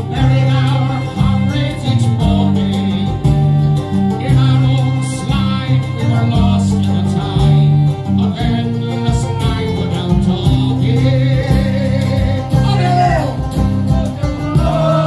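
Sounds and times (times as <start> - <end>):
acoustic guitars strumming: 0.0 - 15.0
fiddle: 0.0 - 15.0
man singing: 0.0 - 15.0.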